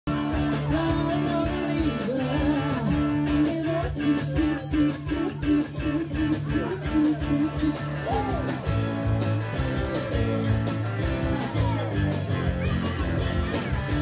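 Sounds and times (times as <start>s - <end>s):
electric guitars: 0.1s - 14.0s
live rock band playing: 0.1s - 14.0s.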